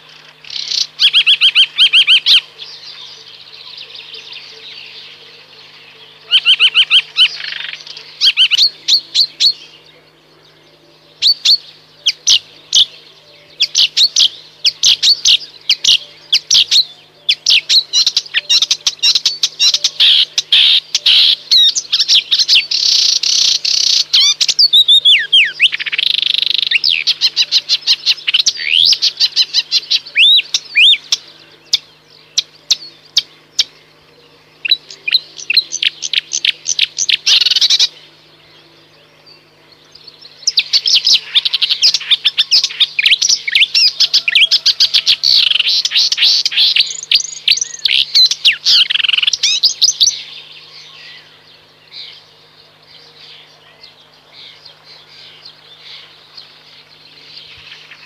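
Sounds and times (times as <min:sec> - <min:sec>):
warbler singing: 0:00.0 - 0:58.0.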